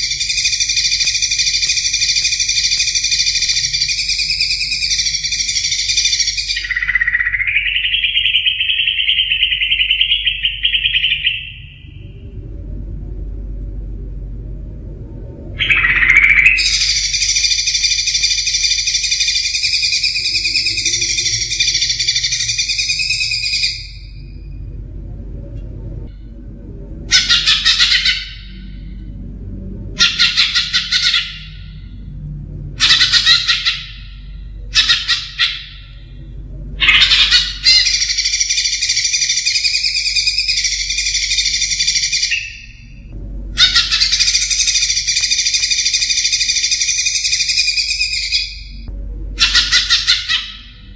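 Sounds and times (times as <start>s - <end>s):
bird warbling song: 0.0s - 12.4s, 15.6s - 24.5s, 27.1s - 29.0s, 32.8s - 50.9s
low steady hum: 0.0s - 50.9s.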